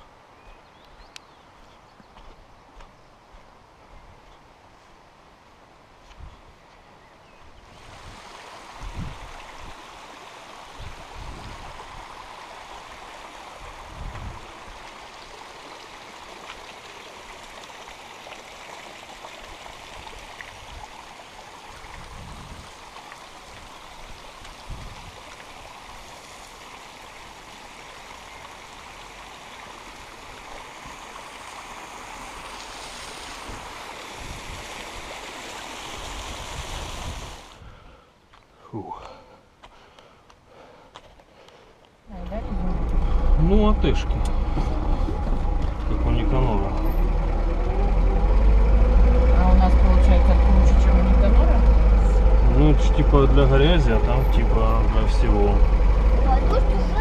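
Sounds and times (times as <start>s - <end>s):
rush of flowing water: 7.4s - 37.8s, 41.4s - 57.0s.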